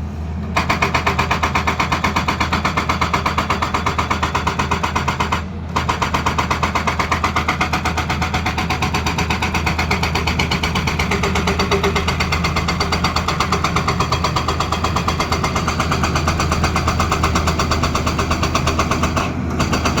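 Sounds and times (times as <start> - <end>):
excavator engine running: 0.0 - 20.0
hydraulic breaker hammering stone: 0.6 - 20.0.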